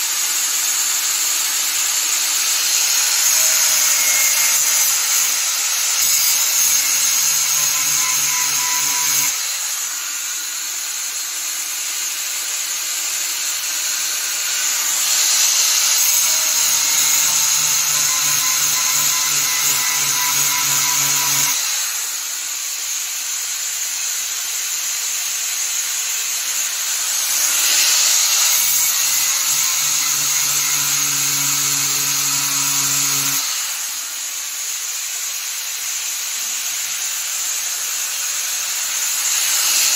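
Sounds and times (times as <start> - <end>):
power grinder grinding metal: 0.0 - 34.8, 36.9 - 39.9.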